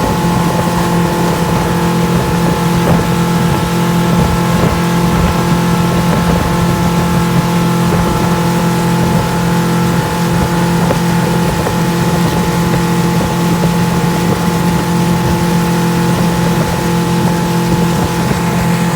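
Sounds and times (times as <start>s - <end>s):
motorboat engine running: 0.0s - 18.9s.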